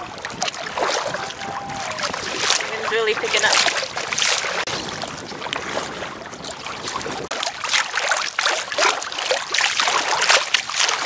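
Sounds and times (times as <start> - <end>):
paddle strokes splashing: 0.0 - 11.0
water sloshing against raft: 0.0 - 11.0.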